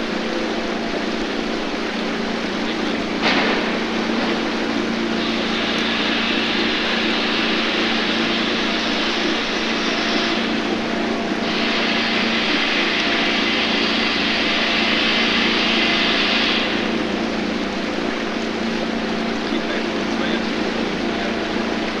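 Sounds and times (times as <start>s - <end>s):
boat motor droning: 0.0s - 22.0s.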